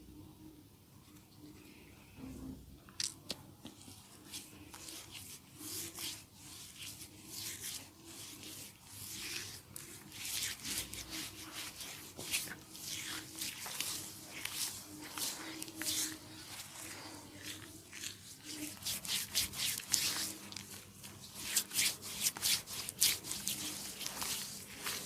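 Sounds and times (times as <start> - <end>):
hands stroking skin: 3.0 - 25.0.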